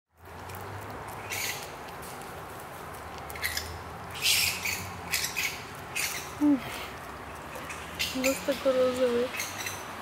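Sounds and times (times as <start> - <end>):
animal chewing crunchily: 0.1 - 9.8.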